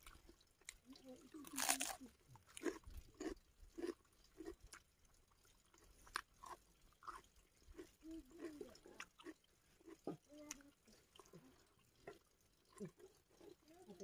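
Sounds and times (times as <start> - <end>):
faint chewing: 0.0 - 14.0.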